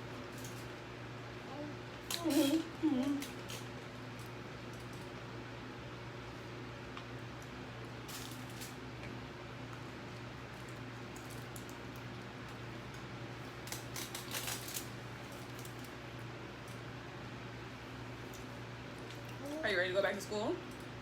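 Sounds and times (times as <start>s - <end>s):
food crackling while eaten: 0.0s - 17.2s, 18.0s - 19.7s
steady low hum: 0.0s - 21.0s.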